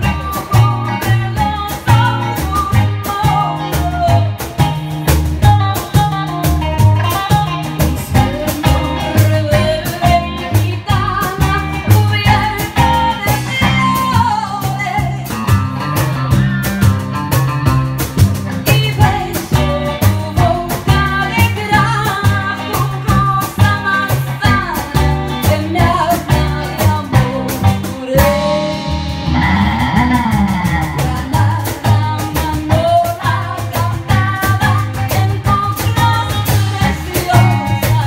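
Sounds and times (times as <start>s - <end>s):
woman singing: 0.0s - 15.6s, 18.6s - 38.0s
electric guitar: 0.0s - 38.0s
upright double bass: 0.0s - 38.0s.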